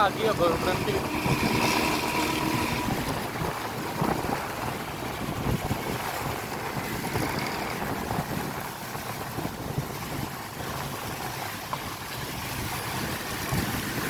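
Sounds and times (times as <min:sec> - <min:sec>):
diesel bus engine rumbling: 0:00.0 - 0:11.7
wind buffeting microphone: 0:00.0 - 0:14.0.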